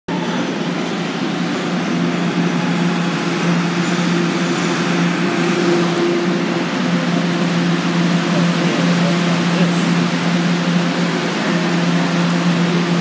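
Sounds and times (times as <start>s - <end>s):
train rumble: 0.1s - 13.0s.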